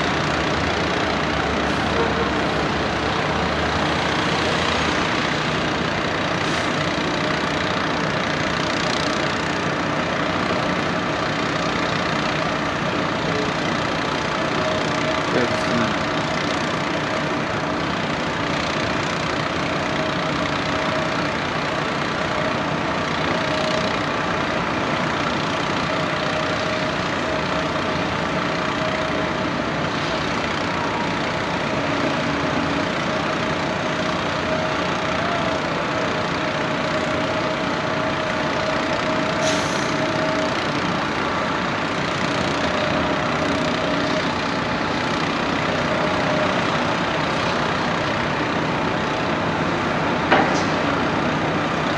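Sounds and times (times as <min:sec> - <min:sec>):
diesel drill rig running: 0:00.0 - 0:51.9.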